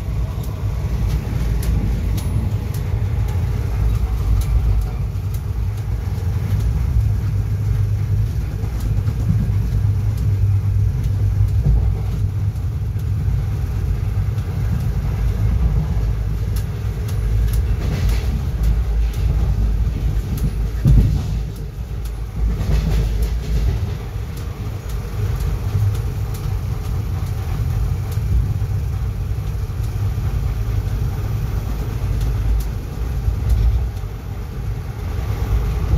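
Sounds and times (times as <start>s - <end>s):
train wheels rumbling on rail: 0.0s - 35.9s
clicks over rail joints: 0.1s - 34.2s.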